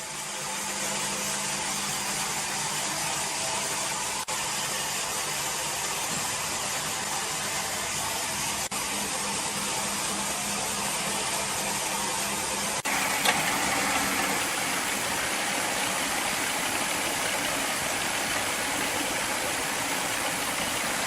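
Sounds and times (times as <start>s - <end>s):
sawmill machinery running: 0.0s - 21.0s.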